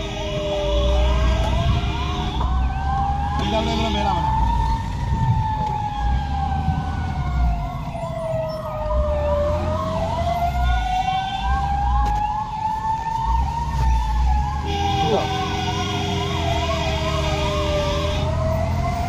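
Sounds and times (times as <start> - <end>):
fast warbling siren: 0.0 - 19.0
slow wailing siren: 0.0 - 19.0.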